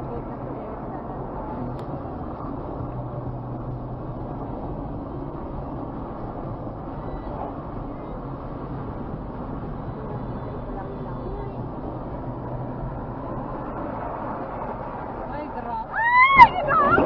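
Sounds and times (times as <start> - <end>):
road rumble: 0.0 - 17.0
vehicle engine hum: 0.0 - 17.0.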